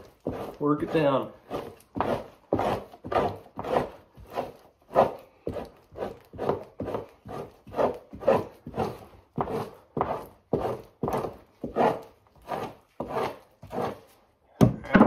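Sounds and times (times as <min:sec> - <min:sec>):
knife scraping hide: 0:00.0 - 0:14.3.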